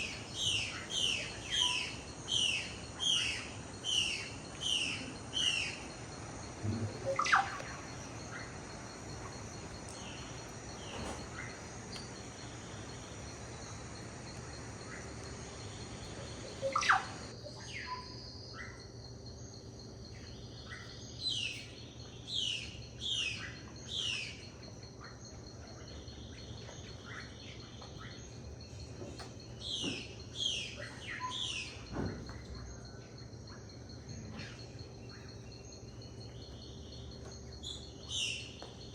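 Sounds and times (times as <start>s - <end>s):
birds calling: 0.0s - 18.9s, 20.1s - 38.9s
insects buzzing: 0.0s - 38.9s.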